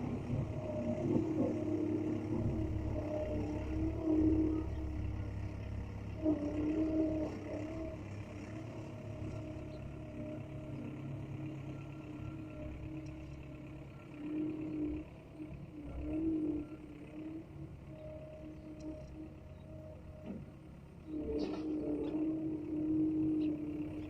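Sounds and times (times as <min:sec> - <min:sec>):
motor humming and droning: 0:00.0 - 0:24.0.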